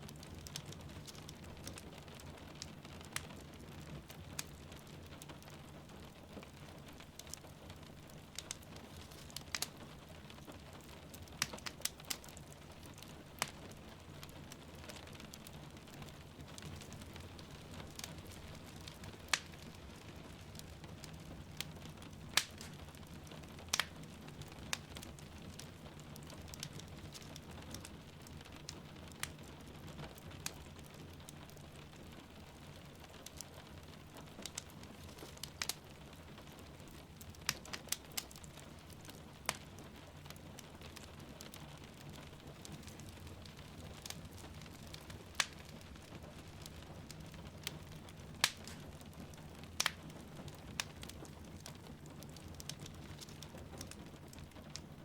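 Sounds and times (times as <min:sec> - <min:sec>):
rain pattering: 0:00.0 - 0:55.0
wood fire crackling and popping: 0:00.0 - 0:55.0.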